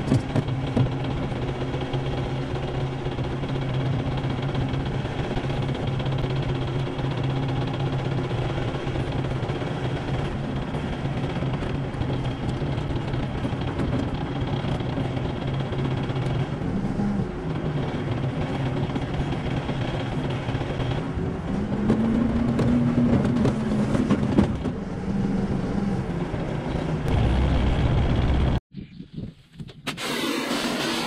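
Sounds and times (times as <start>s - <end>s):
diesel engine running: 0.0s - 28.6s.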